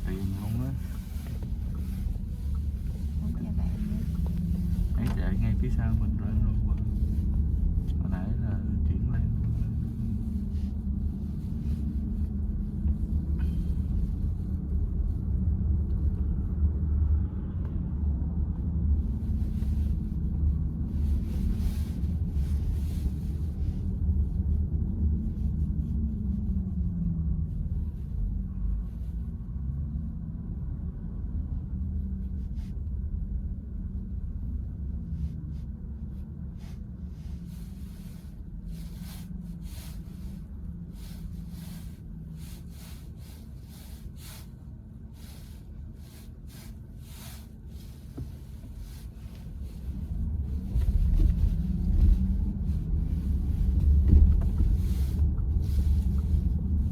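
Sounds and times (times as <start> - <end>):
tyre and road rumble in car: 0.0 - 56.9.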